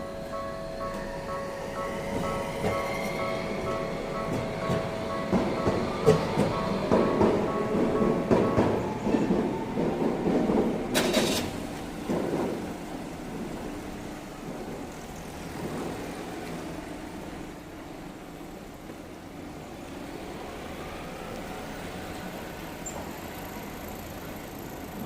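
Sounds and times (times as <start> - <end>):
low rumble of tram: 0.0 - 25.0
road traffic noise: 0.0 - 25.0
tram clattering over crossing: 0.0 - 25.0.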